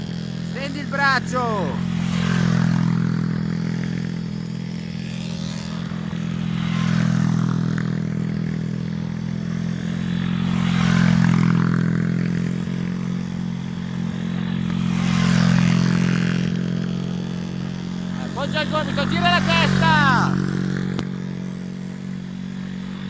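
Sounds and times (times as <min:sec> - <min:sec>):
small motorbike engine: 0:00.0 - 0:23.0.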